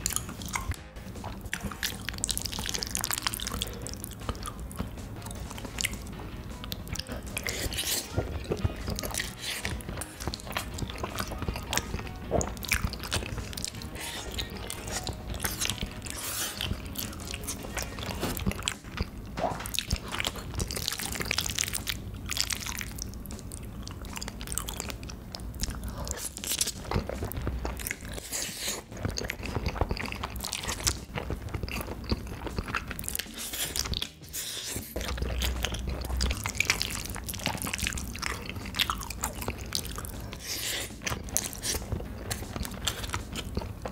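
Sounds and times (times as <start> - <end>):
person chewing: 0.0 - 43.9.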